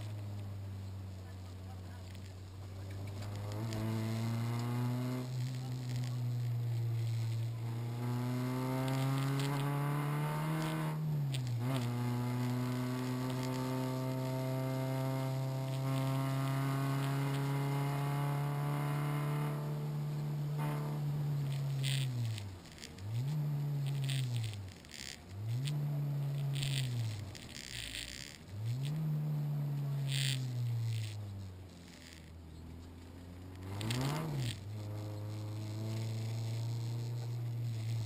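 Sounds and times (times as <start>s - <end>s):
car engine at high revs: 0.0s - 38.0s.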